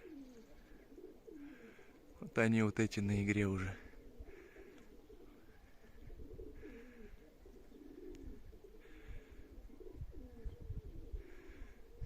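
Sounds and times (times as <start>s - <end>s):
pigeons cooing: 0.0s - 2.4s, 3.6s - 12.0s.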